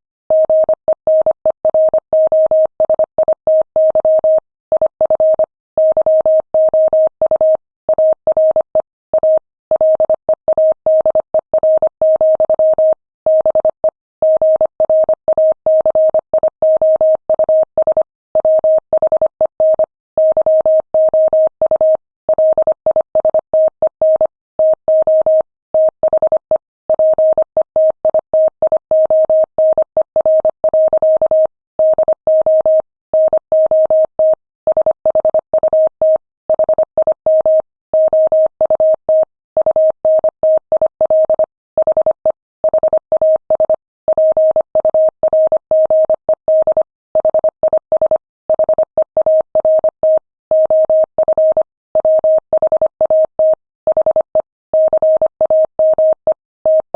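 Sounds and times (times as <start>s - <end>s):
morse code tone beeps: 0.3s - 56.9s.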